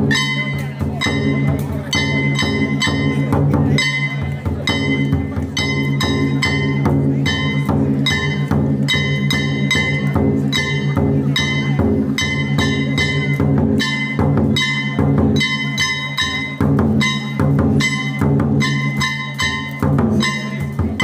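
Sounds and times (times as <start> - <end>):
large drum beaten rhythmically: 0.0 - 21.0.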